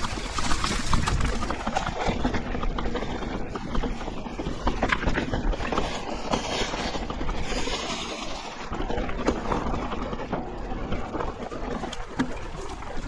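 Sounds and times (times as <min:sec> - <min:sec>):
bike rattling: 0:00.0 - 0:13.0
tyres rumbling on loose ground: 0:00.0 - 0:13.0.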